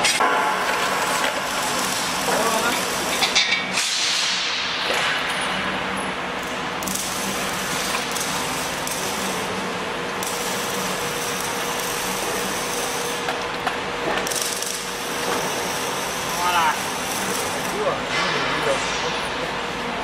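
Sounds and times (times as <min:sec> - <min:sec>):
workshop noise: 0:00.0 - 0:20.0.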